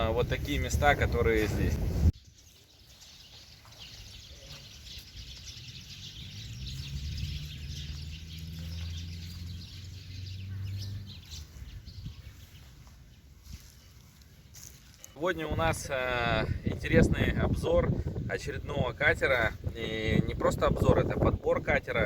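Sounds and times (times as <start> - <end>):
small birds chirping: 2.1 - 22.0.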